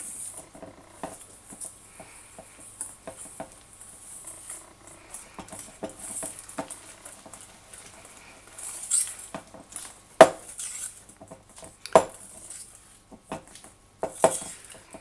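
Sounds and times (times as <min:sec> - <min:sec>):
whisk scraping bowl: 0:00.0 - 0:15.0.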